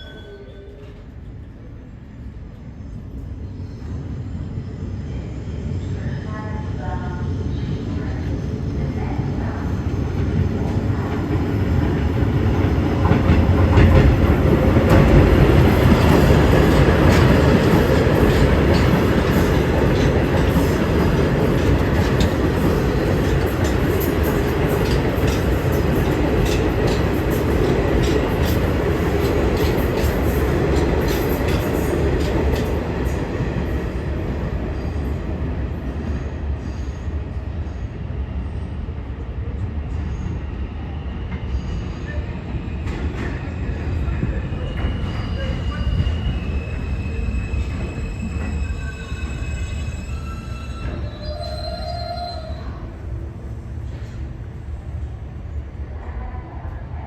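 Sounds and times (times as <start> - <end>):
subway train running: 0.0 - 57.0.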